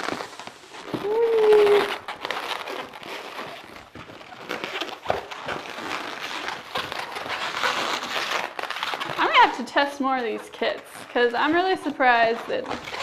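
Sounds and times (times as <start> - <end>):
balloons squeaking: 0.0 - 13.0
latex balloons rubbing: 0.0 - 13.0.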